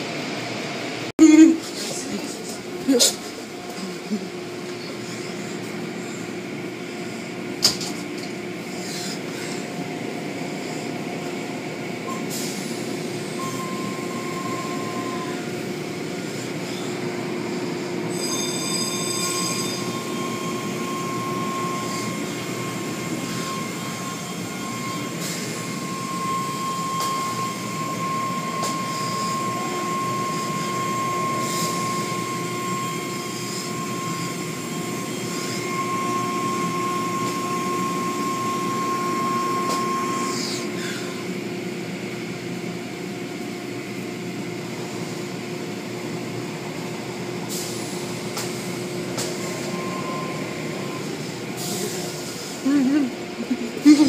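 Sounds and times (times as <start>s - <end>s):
car wash machinery droning: 0.0s - 54.0s.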